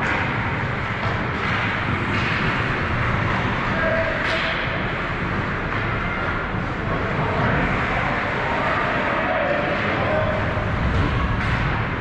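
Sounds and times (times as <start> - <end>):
ice hockey play sounds: 0.0 - 11.9.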